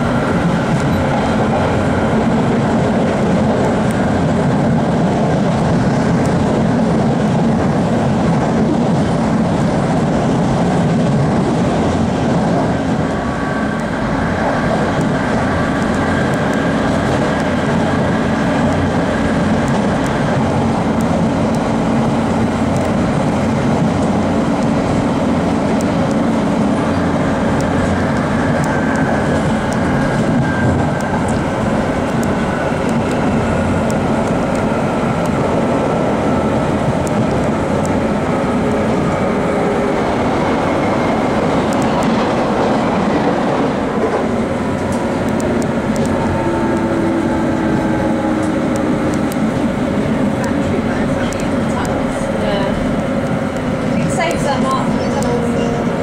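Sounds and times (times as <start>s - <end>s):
rail joint clicks: 0.0s - 56.0s
train wheels rumbling on rail: 0.0s - 56.0s.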